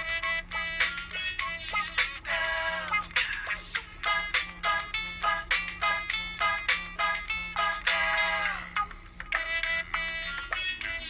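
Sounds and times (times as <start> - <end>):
electronic phone ringtone: 0.0 - 11.0.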